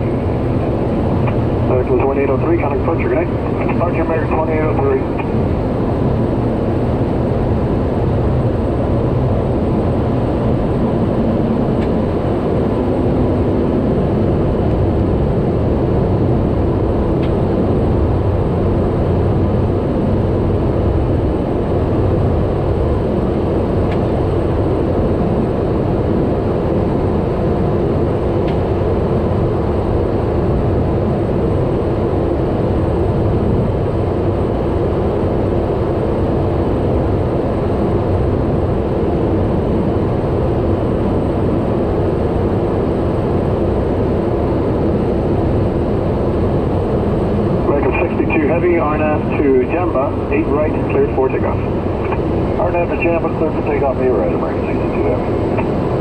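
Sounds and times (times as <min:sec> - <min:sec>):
turboprop engine and propeller drone: 0:00.0 - 0:56.0.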